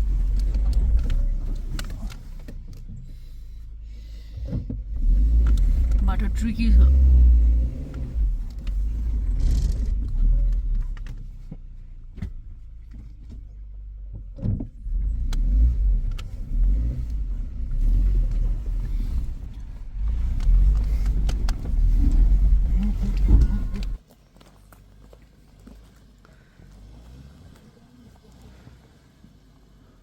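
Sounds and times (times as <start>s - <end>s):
vehicle engine running at low speed: 0.0s - 30.0s.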